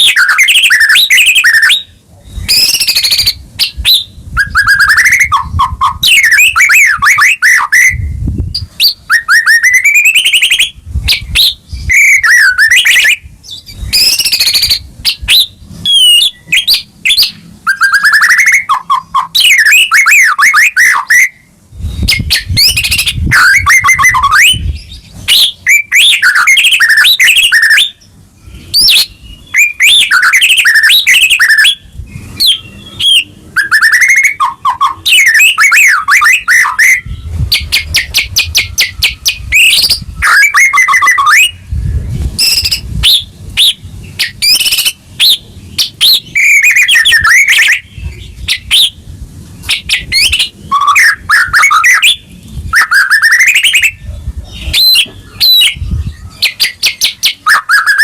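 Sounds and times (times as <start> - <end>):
songbird singing loudly: 0.0 - 58.0.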